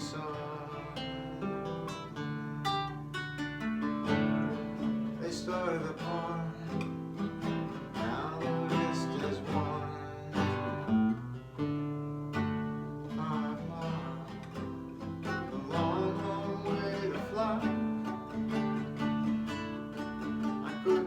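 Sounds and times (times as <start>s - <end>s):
nylon-string acoustic guitar: 0.0s - 21.0s.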